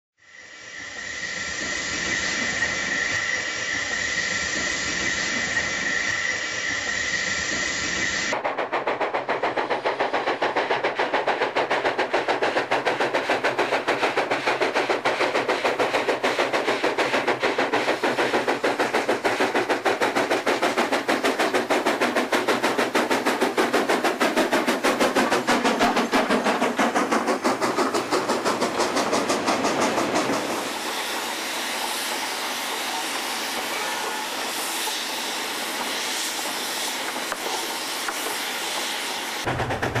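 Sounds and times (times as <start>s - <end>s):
steam hiss: 0.2s - 40.0s
steam locomotive exhaust beats: 0.2s - 40.0s.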